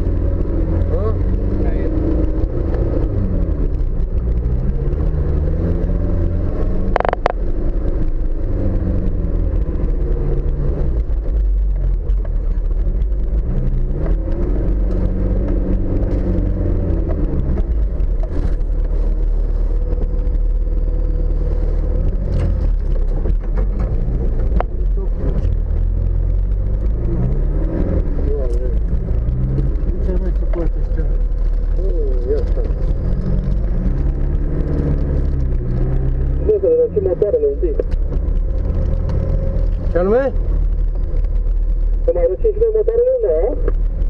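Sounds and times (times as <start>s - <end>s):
off-road vehicle engine revving: 0.0s - 44.0s.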